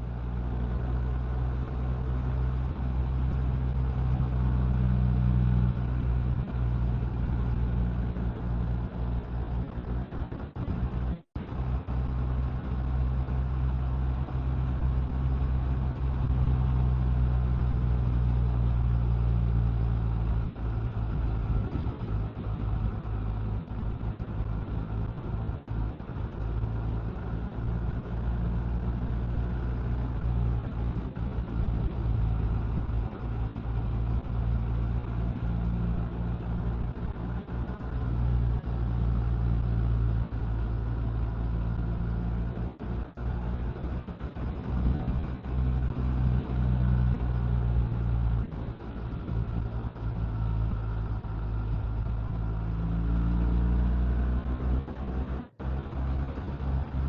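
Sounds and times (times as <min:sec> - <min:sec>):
motorcycle engine droning: 0:00.0 - 0:57.0
road noise: 0:00.0 - 0:57.0.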